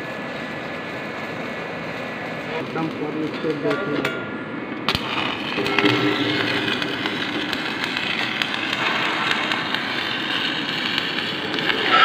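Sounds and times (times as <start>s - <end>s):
arc welding crackling hiss: 0.0s - 4.0s, 4.9s - 12.0s.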